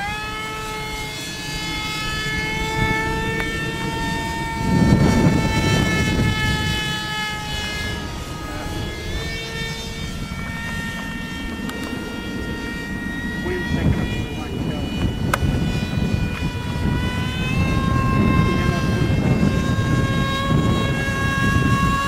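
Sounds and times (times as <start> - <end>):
model aircraft motor flying past: 0.0 - 22.0
rush of noise: 0.0 - 22.0.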